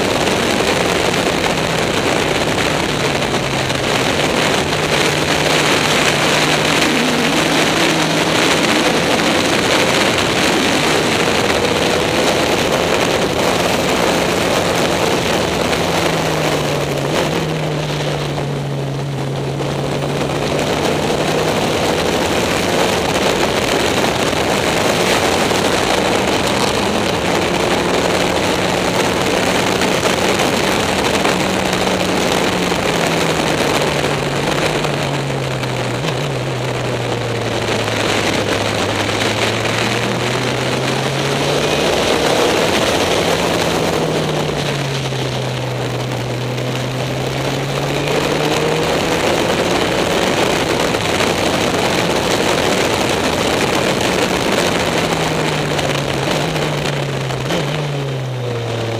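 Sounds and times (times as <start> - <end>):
race car engine droning: 0.0 - 58.9
wind and road noise: 0.0 - 58.9.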